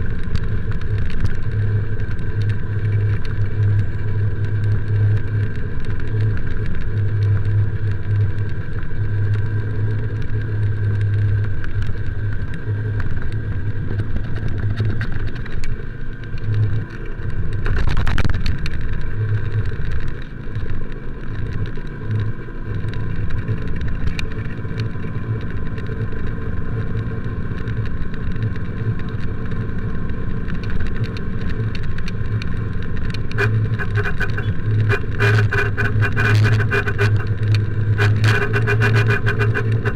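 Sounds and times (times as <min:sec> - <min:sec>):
motorcycle engine running: 0:00.0 - 0:39.9
road traffic: 0:00.0 - 0:39.9.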